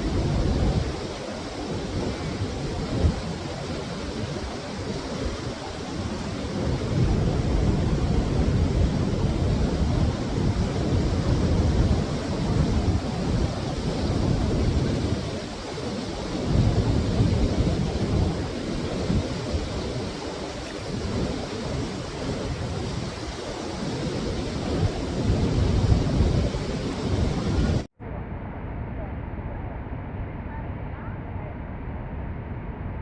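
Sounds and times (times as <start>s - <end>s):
waterfall rushing: 0.0s - 27.9s
wind rumble on microphone: 0.0s - 33.0s.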